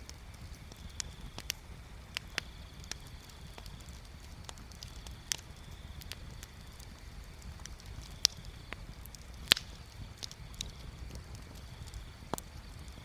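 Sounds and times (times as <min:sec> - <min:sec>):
low steady rumble: 0:00.0 - 0:13.0
wood fire crackling: 0:00.0 - 0:13.0.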